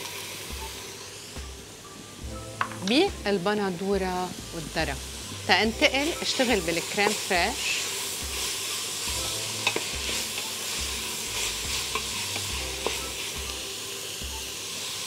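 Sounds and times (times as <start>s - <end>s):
filling sizzling in a pot: 0.0s - 15.0s.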